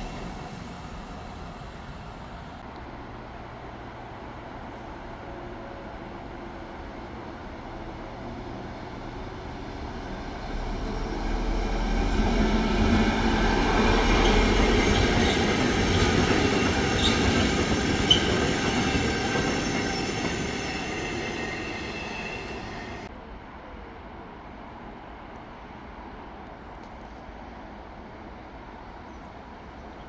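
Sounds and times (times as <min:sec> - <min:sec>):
freight train passing: 0:00.0 - 0:26.4.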